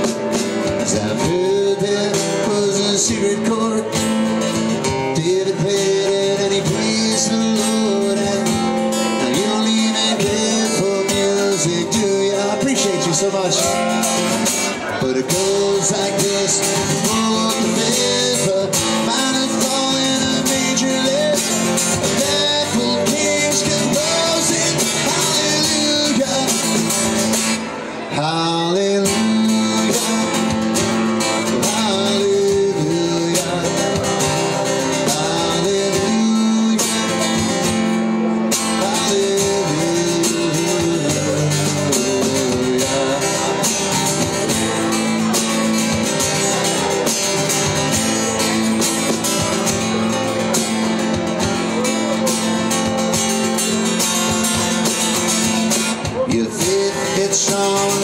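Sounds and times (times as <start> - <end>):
country band instrumental: 0.0 - 58.0.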